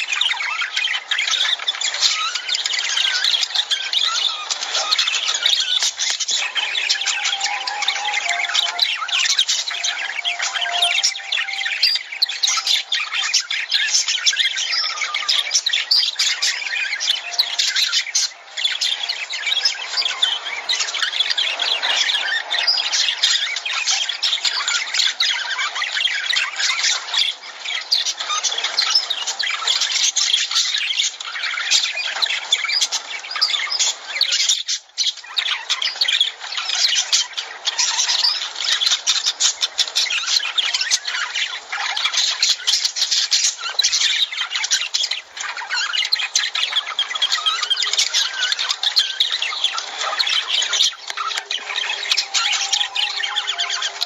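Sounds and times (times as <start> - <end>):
lovebirds chattering: 0.0 - 54.0.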